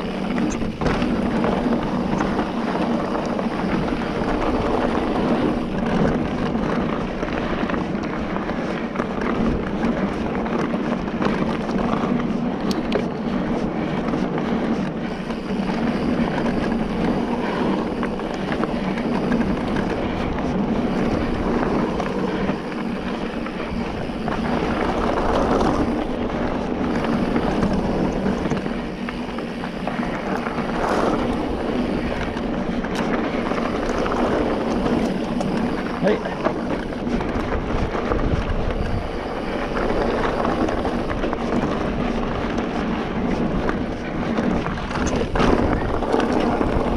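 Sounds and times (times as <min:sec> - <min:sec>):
bike tyres on trail: 0:00.0 - 0:46.9
wind rushing on microphone: 0:00.0 - 0:46.9.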